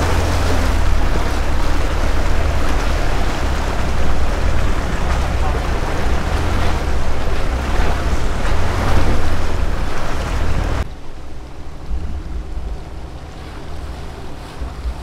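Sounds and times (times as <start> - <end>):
vehicle low rumble: 0.0 - 15.0.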